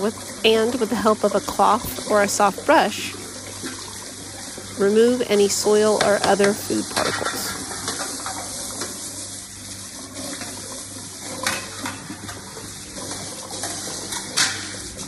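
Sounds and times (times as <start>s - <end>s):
tap water running: 0.0s - 15.0s.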